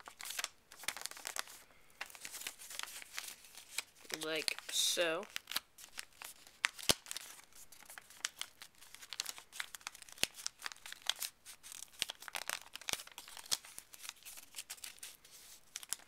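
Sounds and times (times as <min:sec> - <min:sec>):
paper crackles: 0:00.0 - 0:16.0
paper crinkling and rustling: 0:00.0 - 0:16.0.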